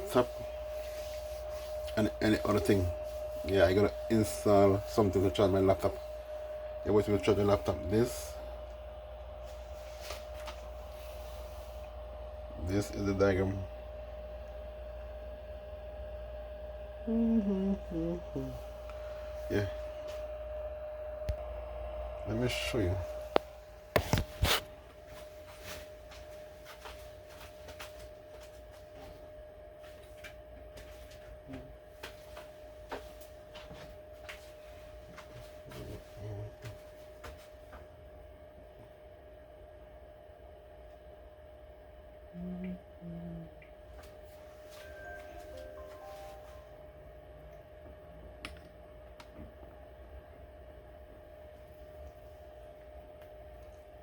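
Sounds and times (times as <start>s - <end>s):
faint steady hum: 0.0s - 54.0s
mid-pitched whine: 0.0s - 54.0s.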